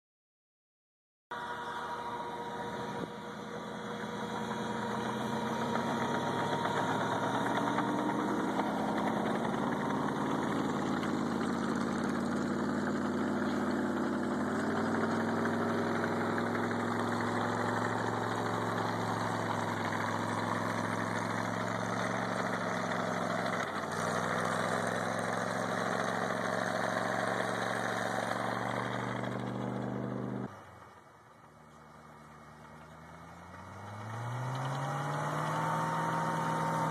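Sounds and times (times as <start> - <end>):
snowcat engine running under load: 1.3 - 36.9.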